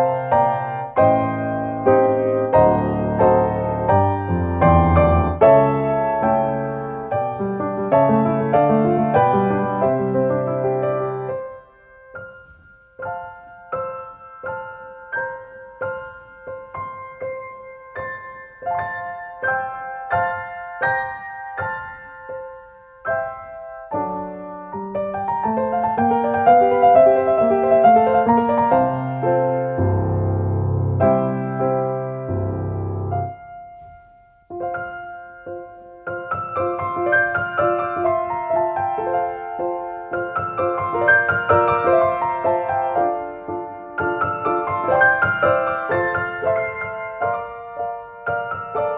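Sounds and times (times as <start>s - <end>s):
solo piano music: 0.0s - 48.9s.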